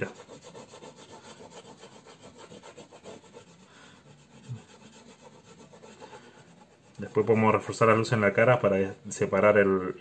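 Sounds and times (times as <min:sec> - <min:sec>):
pastel scraping on paper: 0:00.0 - 0:08.2.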